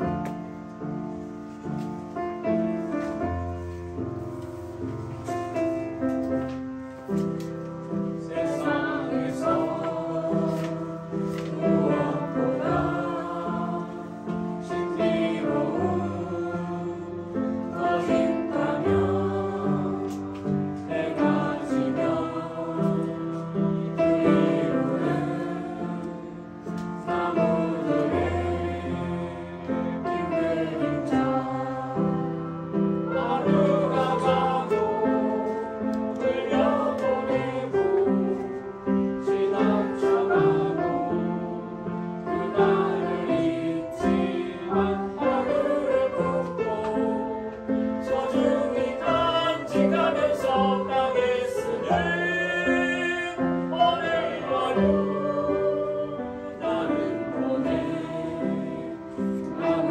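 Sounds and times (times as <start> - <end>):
upright piano: 0.0 - 59.9
group singing: 8.0 - 59.9.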